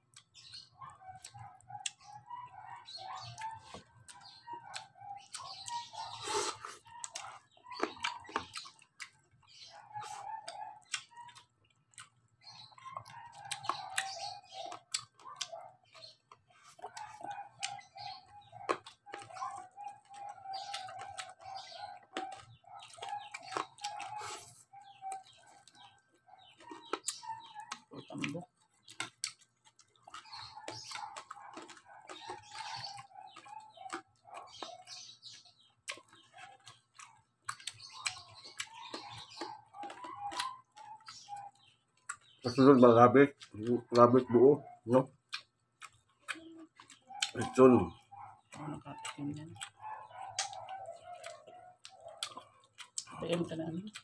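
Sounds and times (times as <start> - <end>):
chewing crispy pork skin: 0.0 - 54.0.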